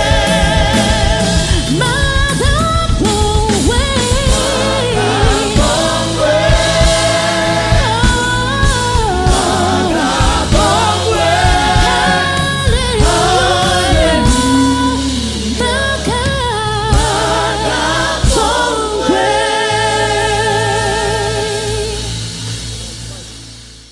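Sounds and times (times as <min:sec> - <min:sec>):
gospel choir singing: 0:00.0 - 0:23.3
live band with bass and keyboard: 0:00.0 - 0:23.9.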